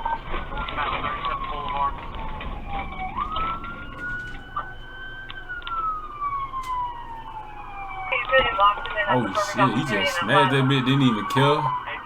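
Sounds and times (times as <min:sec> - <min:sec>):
low vehicle rumble: 0:00.0 - 0:11.9
police car siren wailing: 0:00.0 - 0:12.0.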